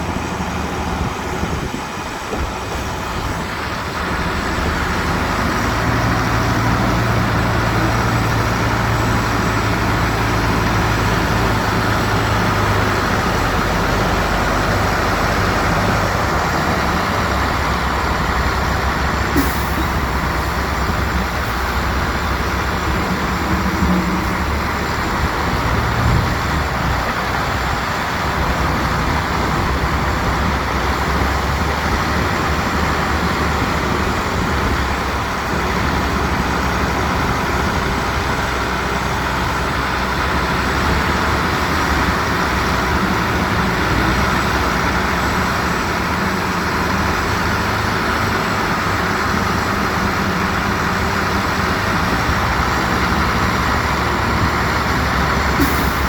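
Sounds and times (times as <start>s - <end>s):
construction machinery engine drone: 0.0s - 56.0s.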